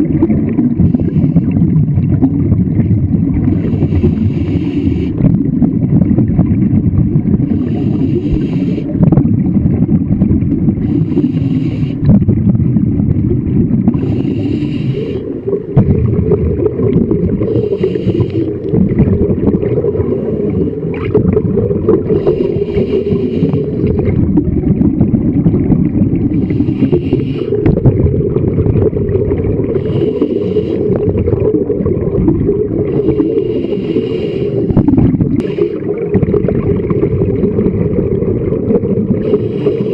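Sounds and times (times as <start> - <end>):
muffled underwater rumble: 0.0 - 39.9
regulator breath hiss and bubbles: 0.0 - 39.9.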